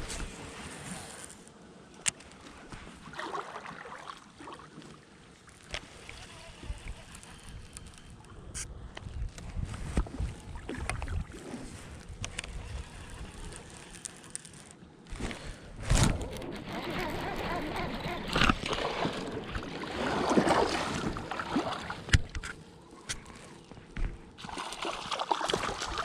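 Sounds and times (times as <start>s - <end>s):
water sloshing and splashing: 2.4s - 8.3s, 9.5s - 26.0s.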